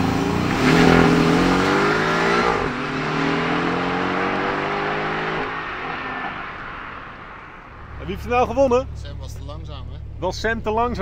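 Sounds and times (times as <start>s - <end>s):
car engines accelerating hard: 0.0s - 11.0s.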